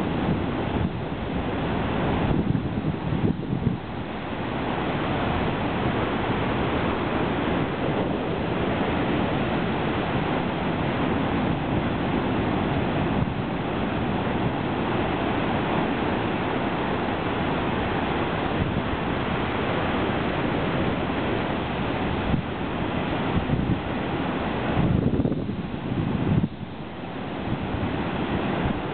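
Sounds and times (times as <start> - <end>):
heavy surf breaking over rocks: 0.0 - 28.9.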